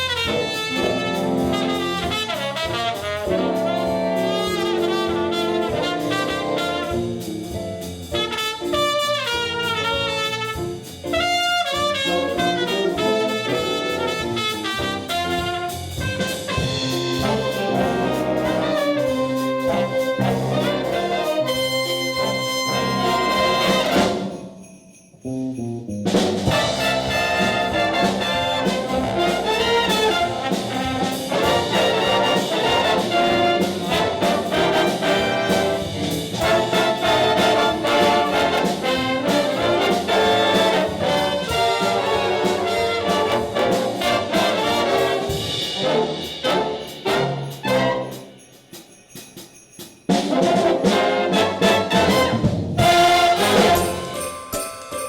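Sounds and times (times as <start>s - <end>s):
brass ensemble music: 0.0s - 48.8s, 50.1s - 54.5s.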